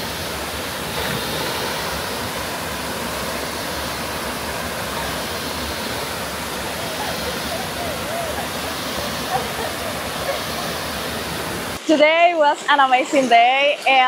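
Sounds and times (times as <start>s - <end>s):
waterfall and river rushing: 0.0s - 12.4s.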